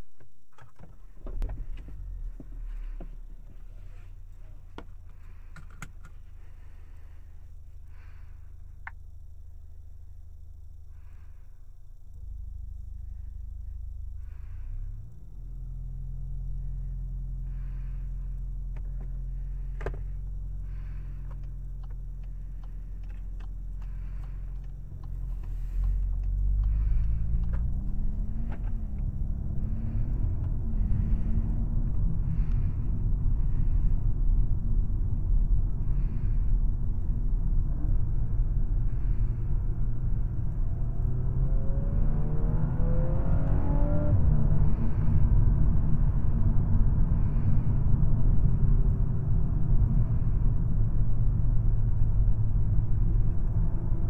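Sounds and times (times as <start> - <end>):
car engine idling and accelerating: 0.0 - 54.0.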